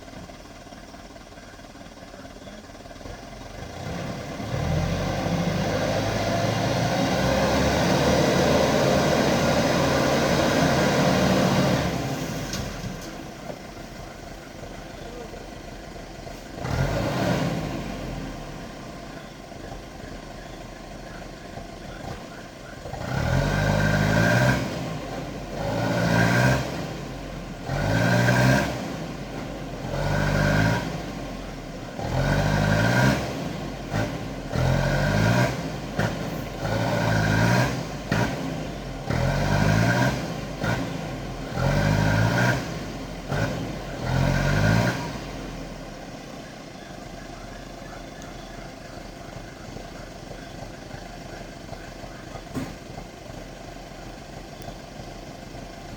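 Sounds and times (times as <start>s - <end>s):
diesel engine revving: 0.0s - 55.9s.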